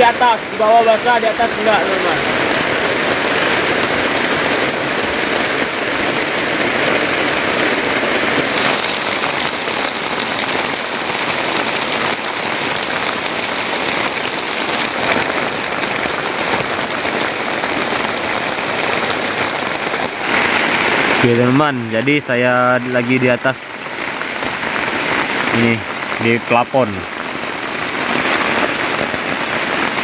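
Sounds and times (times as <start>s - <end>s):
heavy rain on plastic tarp: 0.0s - 30.0s.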